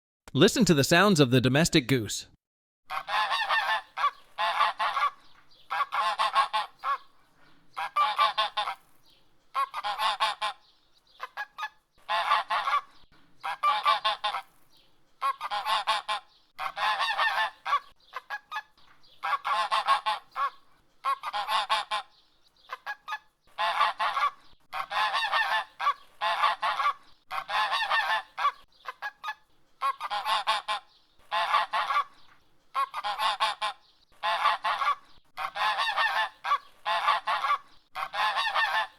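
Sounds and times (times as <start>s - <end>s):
goose honking: 2.9s - 7.1s, 7.8s - 8.8s, 9.6s - 10.6s, 11.2s - 14.5s, 15.2s - 32.1s, 32.8s - 38.9s.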